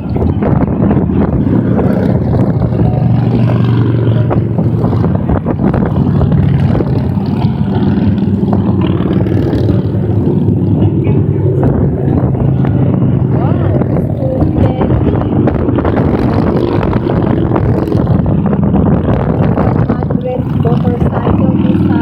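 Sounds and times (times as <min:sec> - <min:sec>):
motorcycles riding past: 0:00.0 - 0:22.0.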